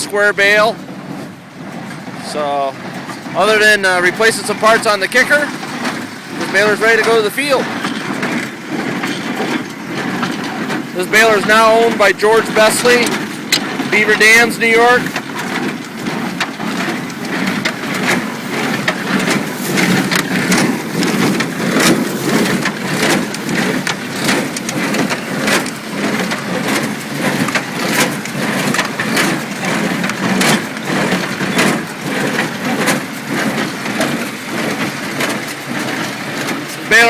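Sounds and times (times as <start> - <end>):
baler rattling clatter: 0.0 - 37.0.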